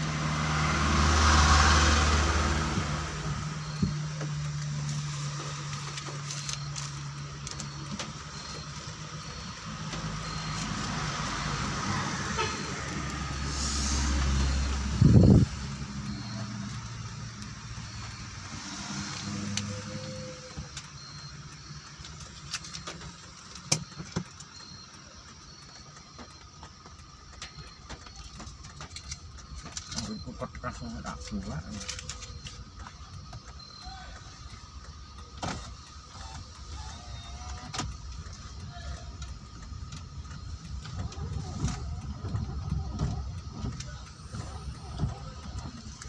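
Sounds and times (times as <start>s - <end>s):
vehicle engine running: 0.0s - 46.0s.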